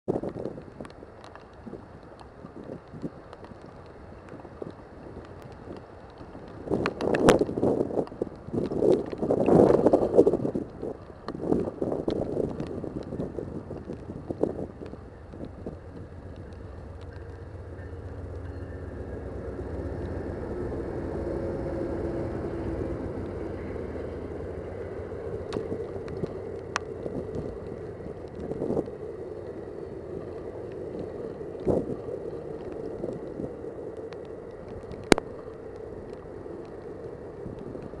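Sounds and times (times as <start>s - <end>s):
wind gusts on microphone: 0.1s - 38.0s
train rumbling past: 0.4s - 38.0s.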